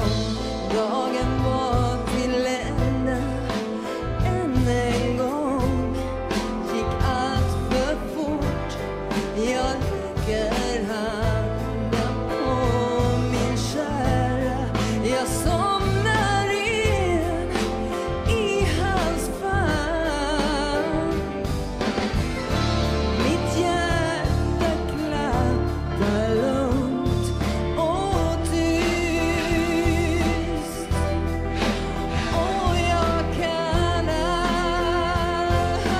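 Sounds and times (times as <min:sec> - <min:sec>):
live band with bass and drums: 0:00.0 - 0:35.9
woman singing pop ballad: 0:00.0 - 0:35.9.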